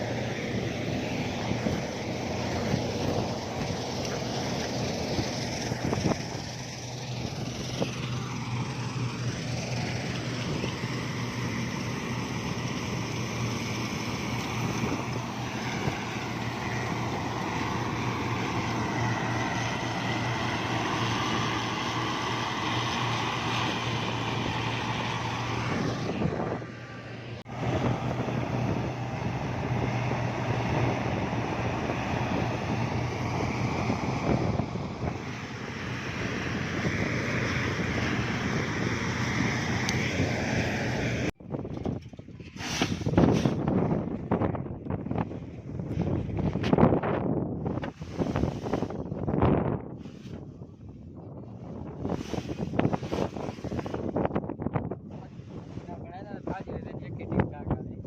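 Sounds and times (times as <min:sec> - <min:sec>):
farm machinery engine humming: 0:00.0 - 0:50.8.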